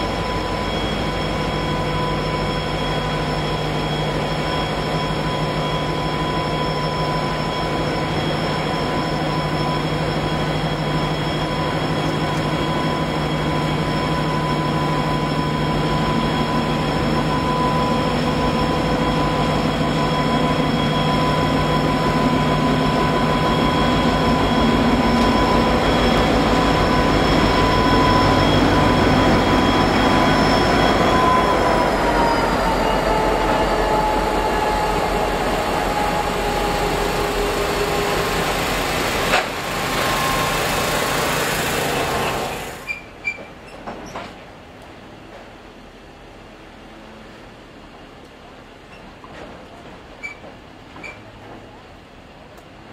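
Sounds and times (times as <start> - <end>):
locomotive engine hum with whine: 0.0 - 52.9.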